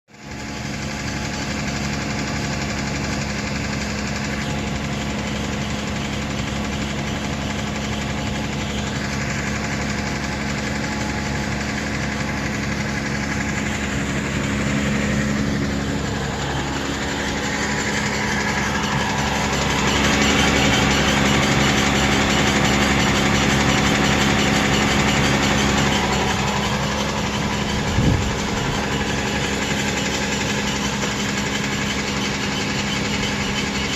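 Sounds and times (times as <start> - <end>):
engine idling with squeak and rattle: 0.1 - 33.9.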